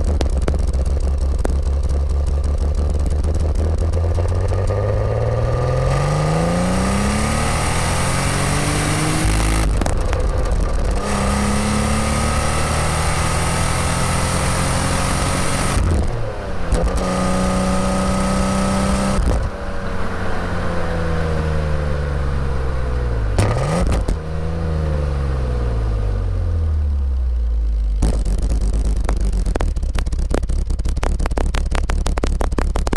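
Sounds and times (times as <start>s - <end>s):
car engine revving: 0.0s - 27.3s, 27.9s - 32.9s.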